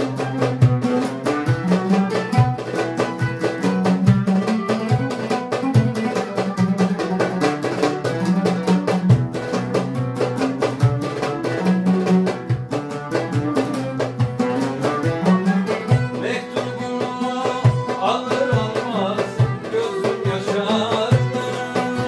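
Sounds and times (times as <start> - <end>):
goblet drum beating: 0.0 - 22.0
plucked lutes: 0.0 - 22.0
violin bowed: 0.0 - 22.0.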